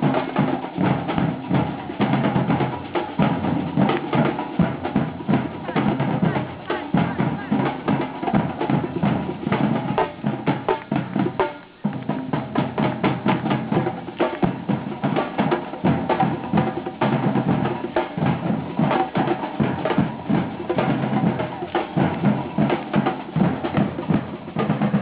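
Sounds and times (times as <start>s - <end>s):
drums and percussion music: 0.0s - 25.0s.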